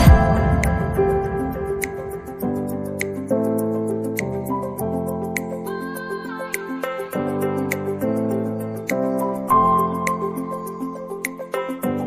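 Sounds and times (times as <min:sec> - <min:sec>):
background music of sustained notes: 0:00.0 - 0:12.0.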